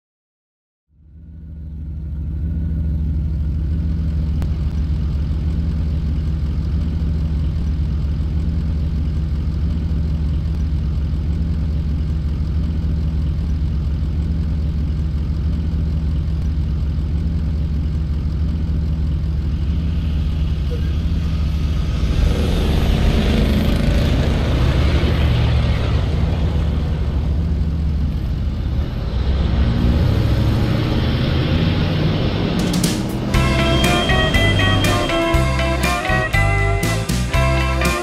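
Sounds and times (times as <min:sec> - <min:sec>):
vehicle engine idling: 0:00.9 - 0:38.0.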